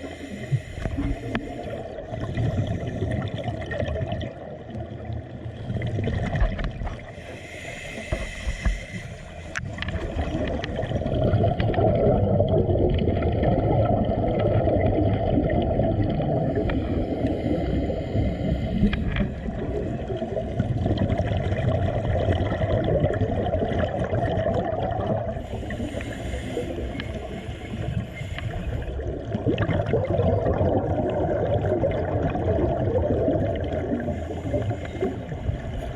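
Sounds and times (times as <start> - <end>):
muffled water rushing and gurgling: 0.0 - 35.9.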